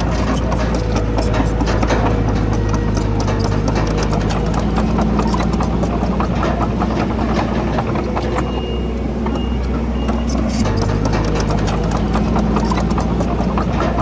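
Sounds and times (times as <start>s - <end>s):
bulldozer diesel engine running: 0.0s - 14.0s
steel tracks clattering over rock: 0.0s - 14.0s.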